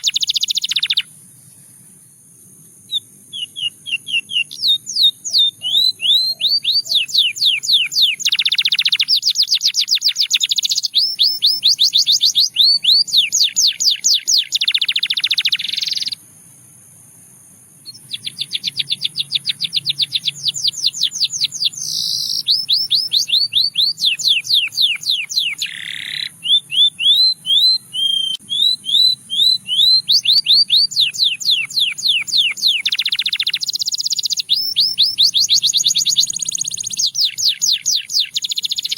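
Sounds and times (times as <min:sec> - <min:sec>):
canary singing: 0:00.0 - 0:01.2, 0:02.9 - 0:16.2, 0:17.8 - 0:38.9.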